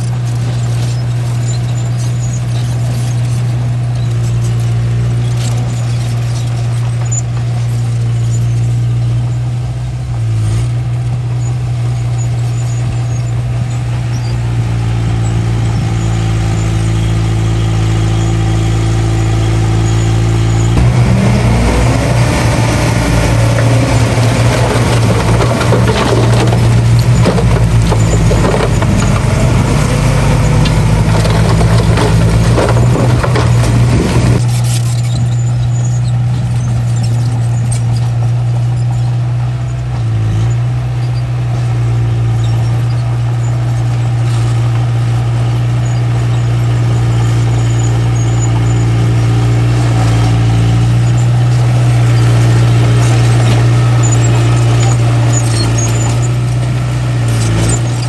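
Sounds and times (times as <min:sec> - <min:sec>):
diesel engine drone: 0:00.0 - 0:58.0
rattling and clanking: 0:00.0 - 0:58.0.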